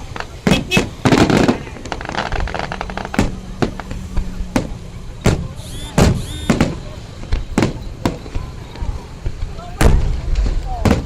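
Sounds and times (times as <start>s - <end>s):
fireworks booming: 0.0s - 11.0s
fireworks crackling: 0.0s - 11.0s.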